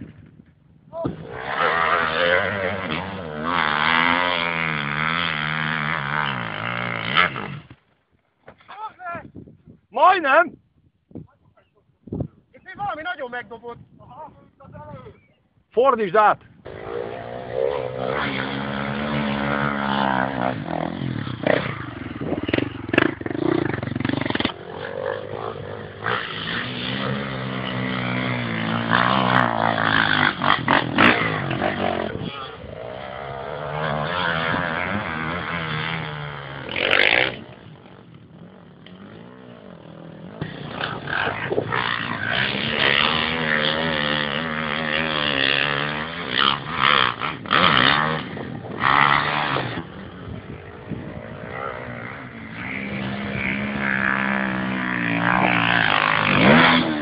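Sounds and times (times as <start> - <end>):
dirt bike engine revving: 1.0 - 7.9, 16.6 - 57.0.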